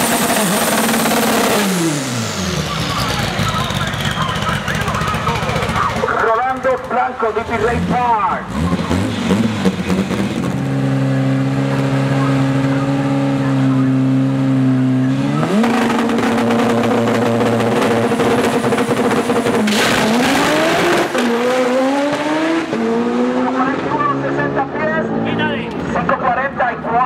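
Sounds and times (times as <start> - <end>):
car engine revving high: 0.0 - 26.6.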